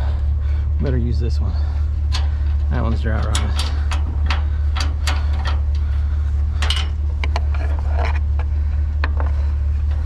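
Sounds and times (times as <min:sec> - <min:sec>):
loud steady low hum: 0:00.0 - 0:10.0.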